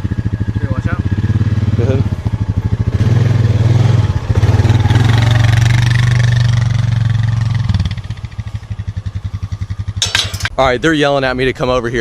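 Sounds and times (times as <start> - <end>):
atv engine revving: 0.0 - 10.0.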